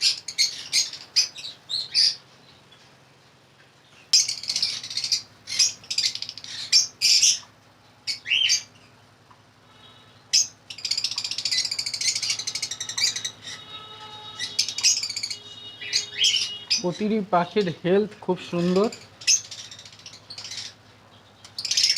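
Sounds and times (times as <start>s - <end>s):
lovebirds chirping: 0.0s - 21.9s.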